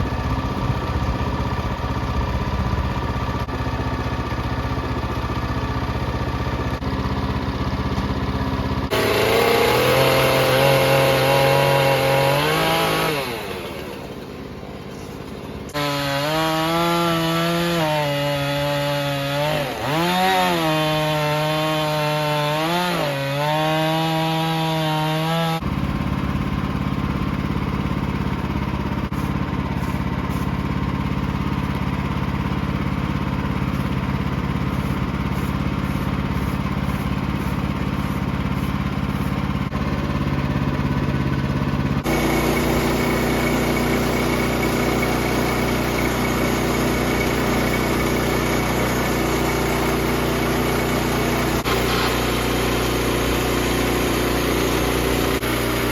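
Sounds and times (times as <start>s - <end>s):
small engine running steadily: 0.0s - 55.9s
chainsaw bogging under load: 0.2s - 55.9s.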